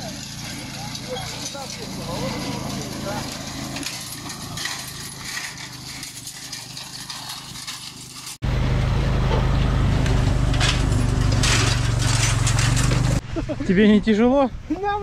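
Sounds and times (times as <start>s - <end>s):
motor tricycle engine: 0.0s - 13.2s
light clattering: 0.1s - 8.4s, 9.3s - 13.2s.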